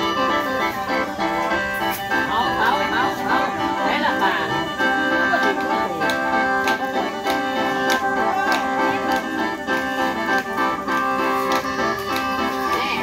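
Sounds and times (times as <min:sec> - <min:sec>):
mouth organ melody over drone: 0:00.0 - 0:13.0
sharp rhythmic strikes: 0:00.0 - 0:13.0.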